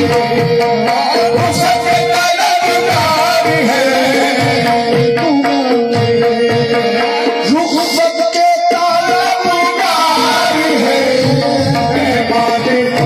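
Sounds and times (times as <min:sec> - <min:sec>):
hand drum rhythm: 0:00.0 - 0:13.0
harmonium tones: 0:00.0 - 0:13.0.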